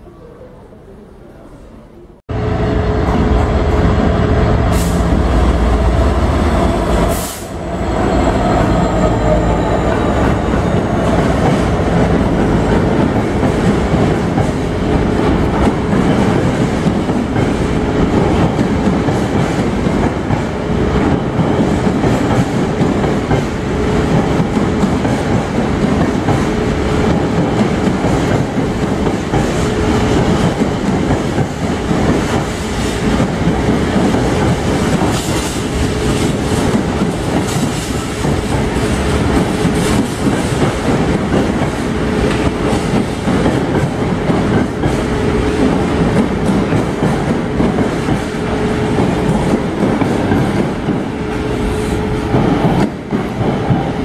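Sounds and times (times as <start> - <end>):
diesel locomotive engine rumble: 2.3 - 54.0
train wheels clacking on rail joints: 10.1 - 54.0.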